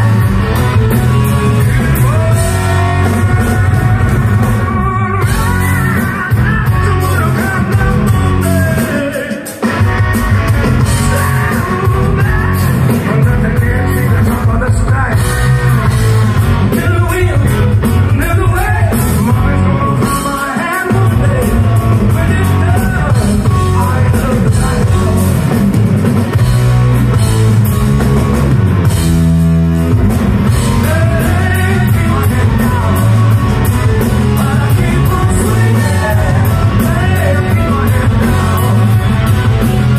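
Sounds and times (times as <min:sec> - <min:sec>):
lead singer: 0:00.0 - 0:29.2, 0:30.0 - 0:39.9
live hard rock band: 0:00.0 - 0:39.9.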